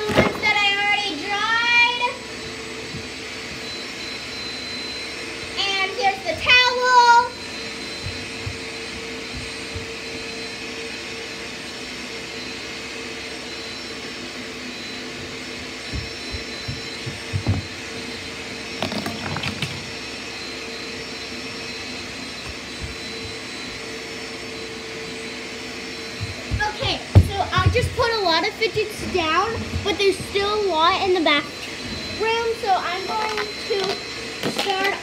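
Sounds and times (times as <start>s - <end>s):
hair dryer whirring: 0.0s - 35.0s.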